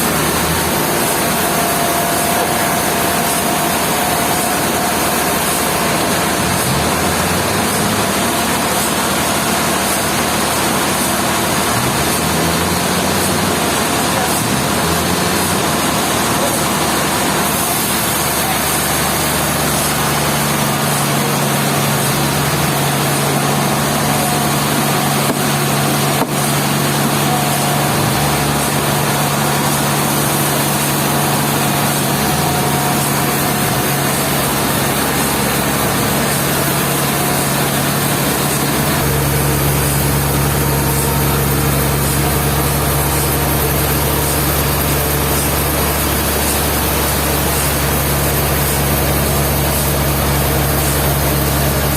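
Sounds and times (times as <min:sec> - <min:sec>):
deeper hum: 0:00.0 - 0:51.9
sawmill machinery running: 0:00.0 - 0:51.9.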